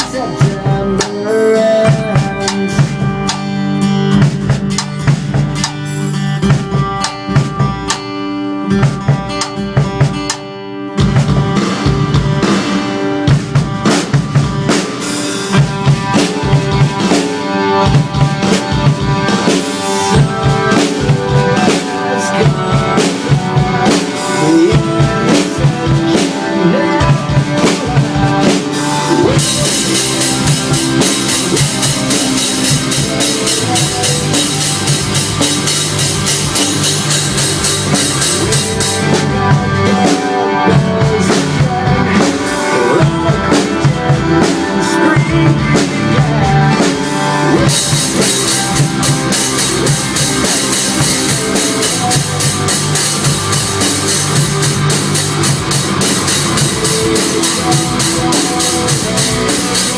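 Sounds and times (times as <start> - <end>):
drum kit beat: 0.0 - 59.9
rock band instrumental: 0.0 - 59.9.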